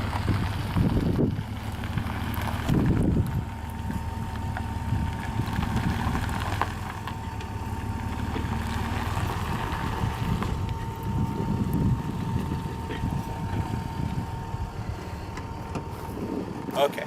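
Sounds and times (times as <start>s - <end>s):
truck engine running: 0.0s - 17.0s
wind noise on microphone: 0.0s - 17.0s.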